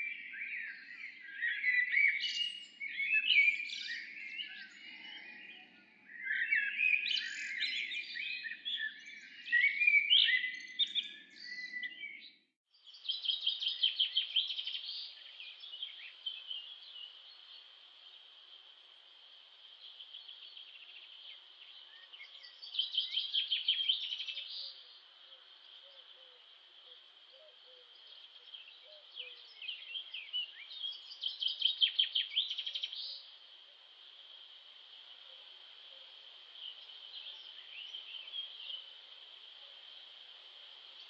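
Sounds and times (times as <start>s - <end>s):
songbirds singing: 0.0s - 41.0s.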